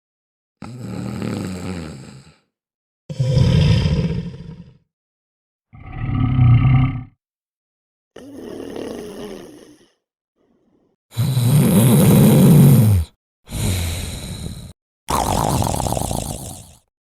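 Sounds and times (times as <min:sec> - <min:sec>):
snoring: 0:00.6 - 0:04.9, 0:05.8 - 0:07.2, 0:08.2 - 0:16.9.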